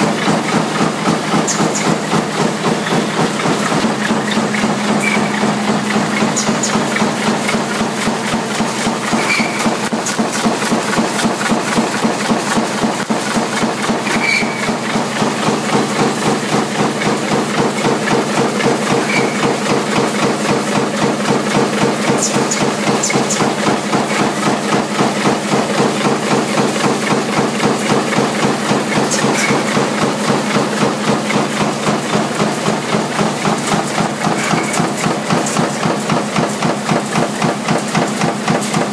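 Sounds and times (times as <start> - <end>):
punch press clatter: 0.0 - 38.9
steady machine hum: 0.0 - 38.9.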